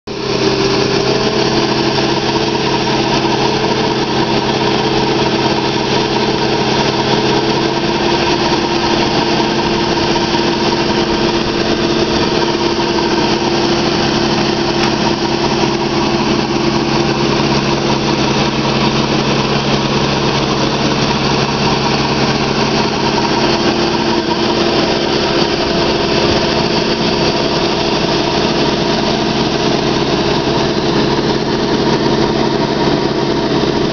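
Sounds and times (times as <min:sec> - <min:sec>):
engine and pump drone: 0:00.1 - 0:33.9.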